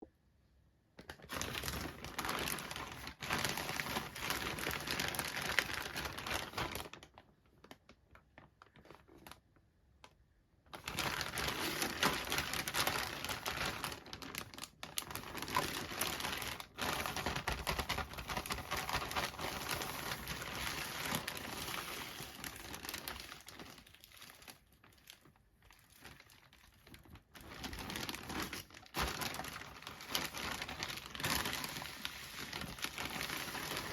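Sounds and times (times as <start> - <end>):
plastic packaging crinkling: 1.0 - 9.5, 10.7 - 33.9.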